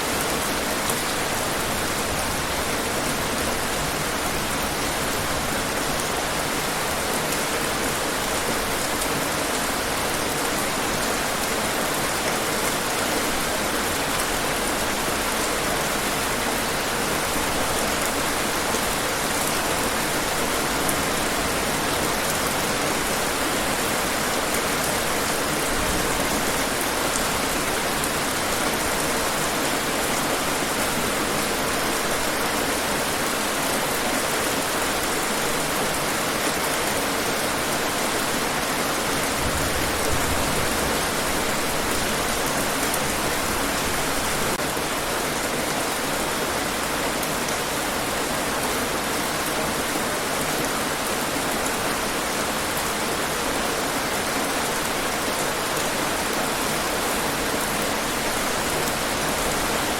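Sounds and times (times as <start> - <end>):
heavy rain on hard surfaces: 0.0 - 59.9.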